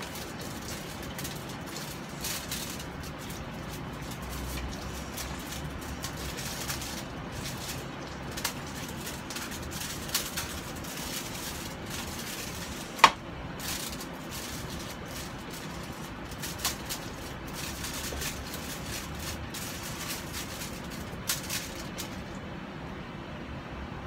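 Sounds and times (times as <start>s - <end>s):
aluminium foil crinkling: 0.0s - 22.5s.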